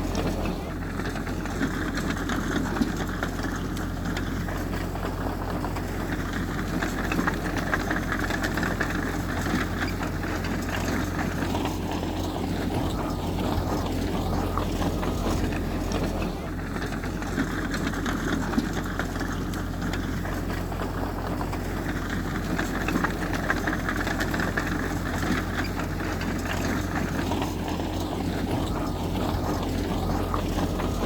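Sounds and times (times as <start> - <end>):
diesel machinery engine drone: 0.0 - 31.0.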